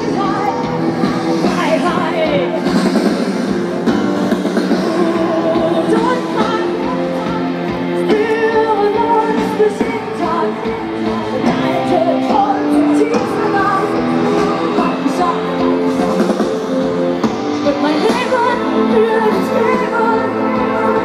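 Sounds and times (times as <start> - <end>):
live heavy metal with singing: 0.0 - 21.0.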